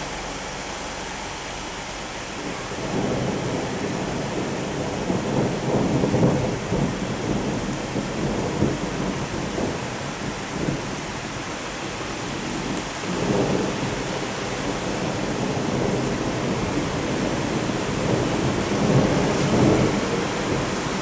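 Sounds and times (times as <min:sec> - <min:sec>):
rain hiss: 0:00.0 - 0:21.0
rolling thunder: 0:00.0 - 0:21.0.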